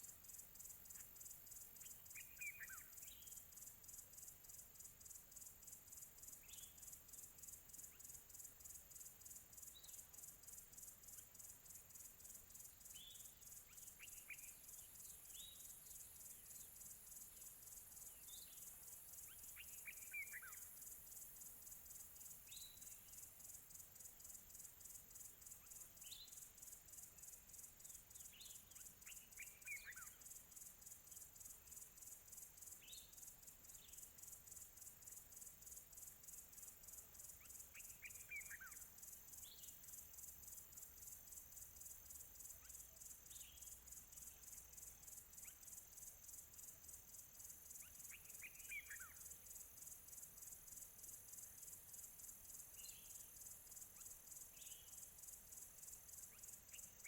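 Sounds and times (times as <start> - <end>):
small birds chirping: 0.0 - 57.0
high-pitched insect trilling: 0.2 - 57.0.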